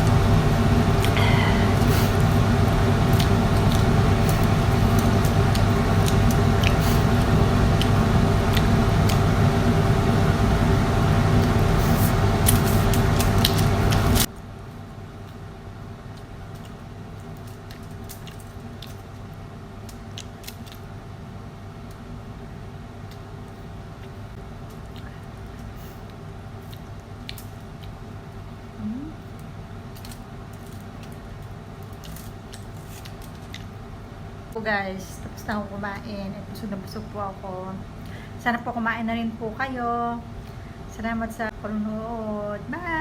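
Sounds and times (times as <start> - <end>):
steady mechanical hum: 0.0 - 43.0.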